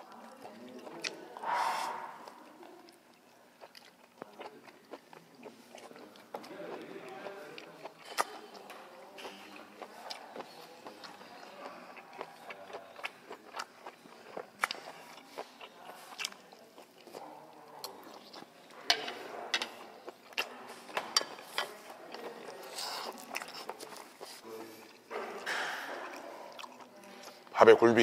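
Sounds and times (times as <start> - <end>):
wet chewing clicks and smacks: 0.0 - 1.4, 2.2 - 18.8, 19.6 - 27.6.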